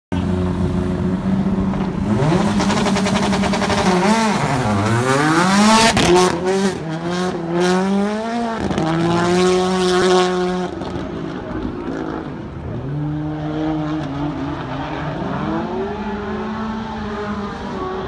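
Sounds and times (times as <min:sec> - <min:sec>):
car engine revving hard: 0:02.0 - 0:18.0.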